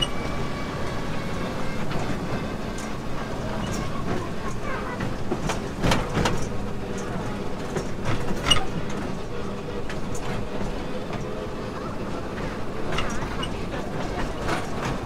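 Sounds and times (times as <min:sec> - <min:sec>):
wheels rumbling on rails: 0:00.0 - 0:15.0.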